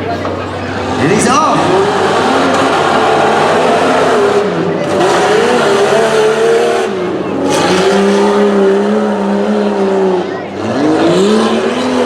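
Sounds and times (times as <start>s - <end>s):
engine revving hard: 0.6s - 12.0s.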